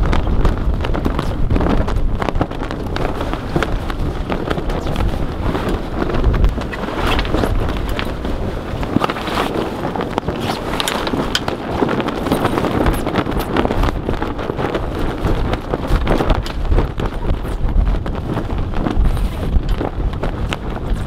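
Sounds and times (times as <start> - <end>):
sailcloth crackling rustle: 0.0 - 21.0
wind buffeting microphone: 0.0 - 21.0.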